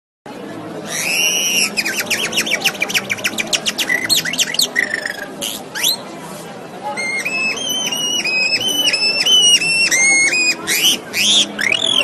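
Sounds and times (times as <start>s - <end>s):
bird-like whistled calls: 0.8s - 6.0s, 6.9s - 12.0s.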